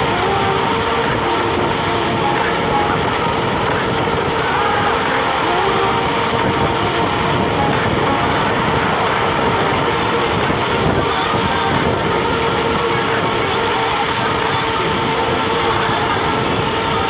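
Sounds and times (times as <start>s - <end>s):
electric motor whine: 0.0s - 17.0s
wind buffeting microphone: 0.0s - 17.0s.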